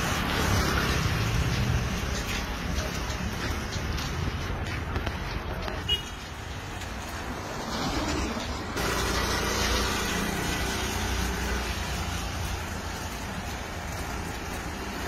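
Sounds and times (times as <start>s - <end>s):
traffic on a wet street: 0.0s - 15.0s.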